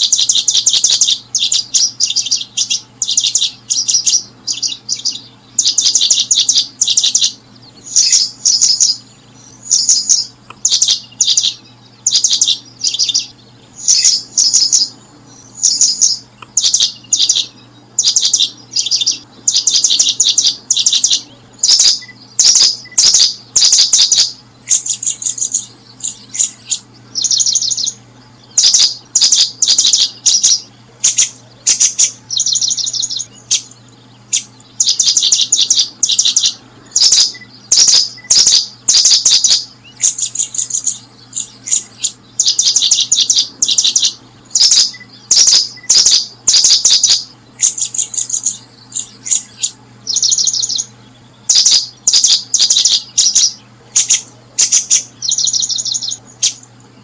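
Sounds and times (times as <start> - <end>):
small bird chittering trills: 0.0 - 57.0.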